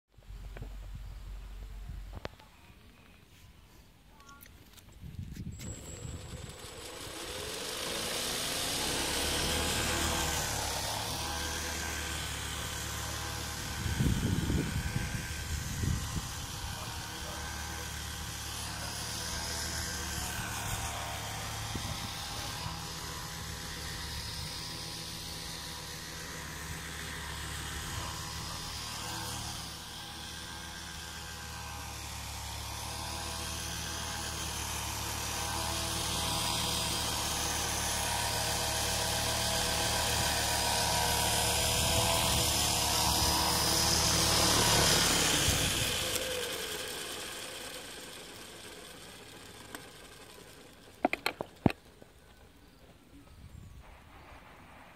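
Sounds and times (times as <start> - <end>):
model helicopter rotor running: 4.2 - 52.9.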